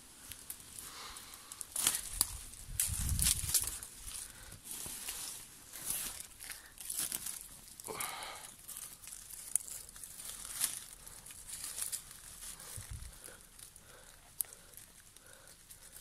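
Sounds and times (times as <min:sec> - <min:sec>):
dry leaves crackling and rustling: 0:00.0 - 0:16.0
twigs snapping: 0:00.1 - 0:16.0.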